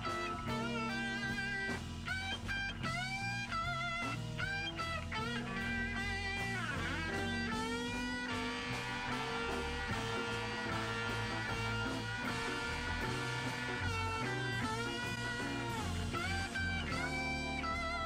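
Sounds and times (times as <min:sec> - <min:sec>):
bass line: 0:00.0 - 0:18.0
electric guitar lead line: 0:00.0 - 0:18.0.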